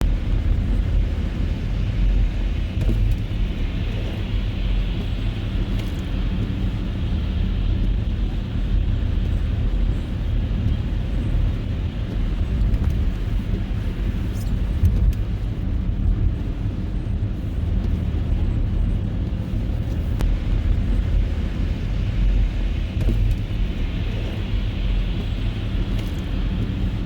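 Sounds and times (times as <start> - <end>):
car engine rumble: 0.0 - 27.0
tyre road noise: 0.0 - 27.0.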